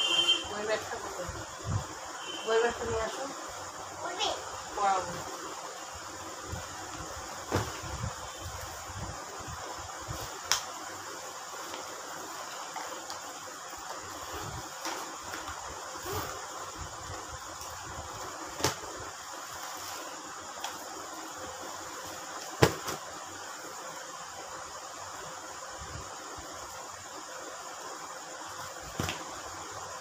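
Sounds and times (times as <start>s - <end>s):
steady low hiss: 0.0s - 30.0s.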